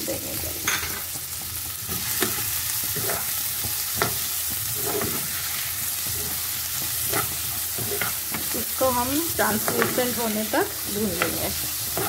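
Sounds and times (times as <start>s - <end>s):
onions sizzling in hot oil: 0.0s - 12.0s
spatula scraping and tapping pan: 0.6s - 12.0s.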